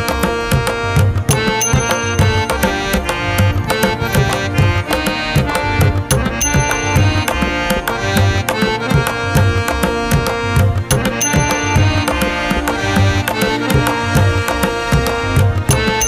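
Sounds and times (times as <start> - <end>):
instrumental music with drum beat: 0.0 - 16.0.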